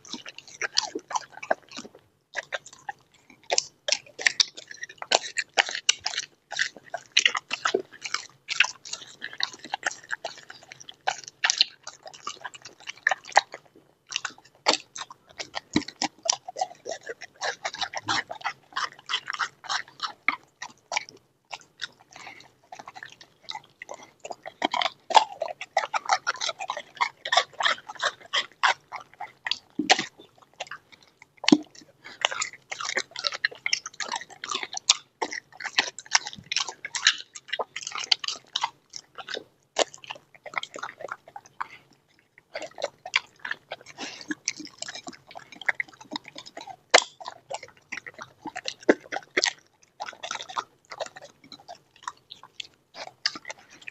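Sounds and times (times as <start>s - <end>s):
dog crunching bones: 0.0s - 53.9s.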